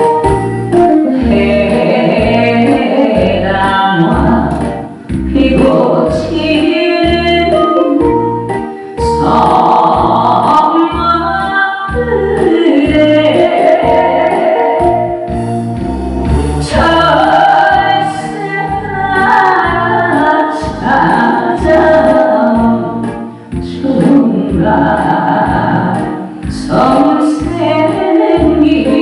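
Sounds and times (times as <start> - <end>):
backing music with bass beat: 0.0 - 10.4, 12.0 - 29.0
woman singing: 0.9 - 8.3, 9.0 - 15.3, 16.6 - 29.0.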